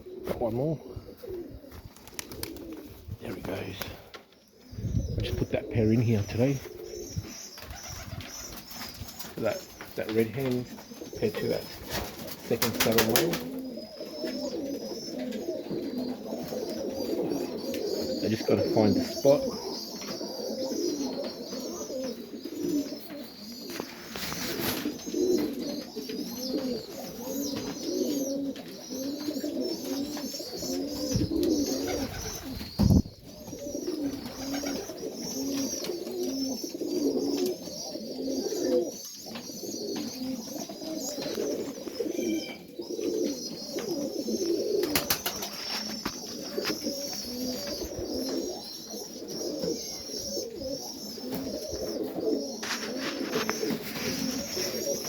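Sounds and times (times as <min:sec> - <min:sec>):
pigeons cooing: 0:00.0 - 0:55.0
high chirping calls: 0:03.4 - 0:55.0.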